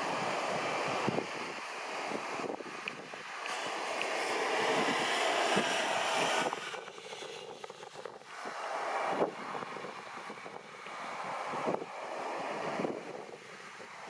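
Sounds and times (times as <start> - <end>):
jet airliner rushing: 0.0 - 14.0
wind buffeting microphone: 0.0 - 14.0.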